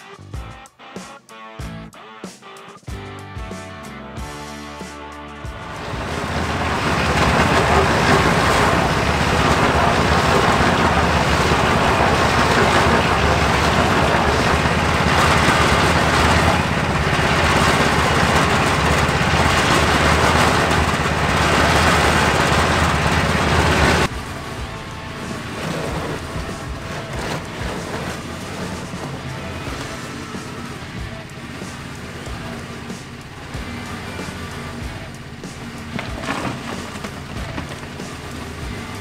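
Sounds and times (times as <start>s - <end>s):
concrete mixer motor humming: 5.3s - 39.0s
rattling of turning drum: 5.4s - 39.0s.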